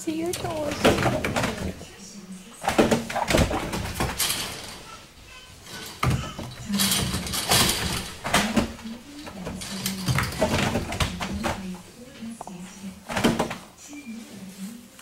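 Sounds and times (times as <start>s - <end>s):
knocks and rattles on fencing: 0.0s - 5.0s, 5.6s - 13.6s.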